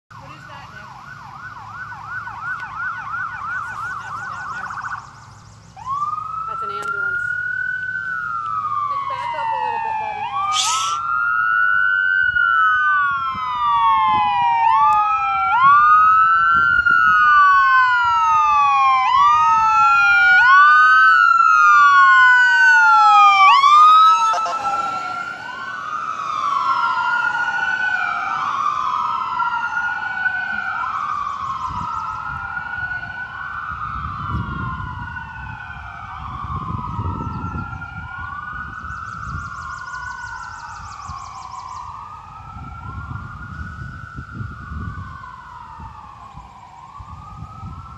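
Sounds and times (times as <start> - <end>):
ambulance wail siren: 0.1 - 47.9.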